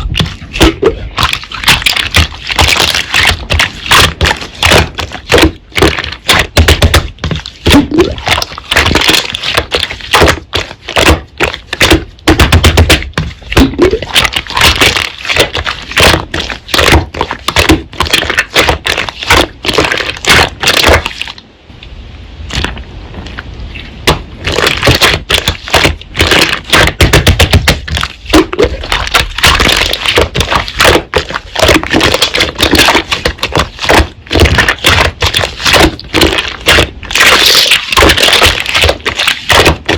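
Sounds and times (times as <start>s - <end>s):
slime crackling and popping: 0.0s - 21.4s, 24.1s - 39.9s.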